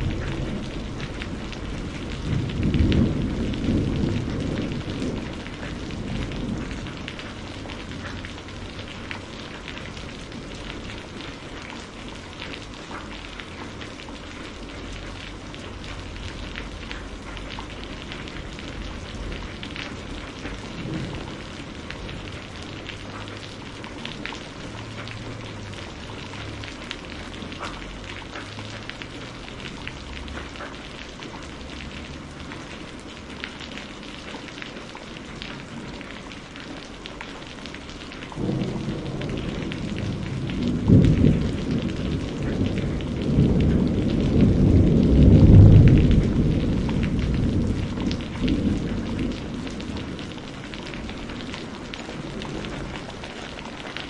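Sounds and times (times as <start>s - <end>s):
distant rolling thunder: 0.0s - 30.6s, 37.8s - 54.0s
steady rain: 0.0s - 54.0s.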